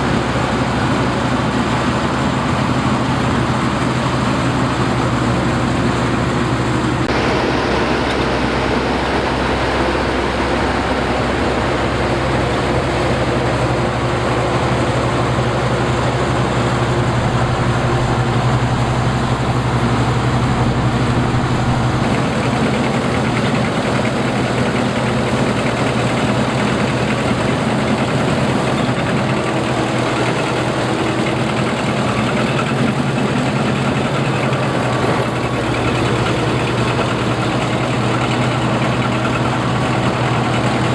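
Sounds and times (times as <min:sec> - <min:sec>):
combine harvester engine drone: 0:00.0 - 0:40.9
machinery mechanical noise: 0:00.0 - 0:40.9.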